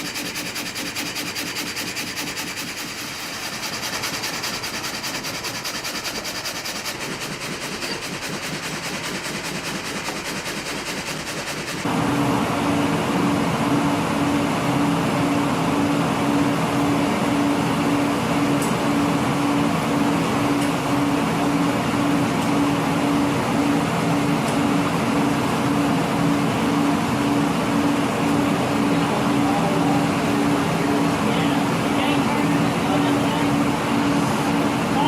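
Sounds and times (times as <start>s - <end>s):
machinery with fast rhythmic rattle: 0.0s - 12.0s, 17.5s - 35.0s.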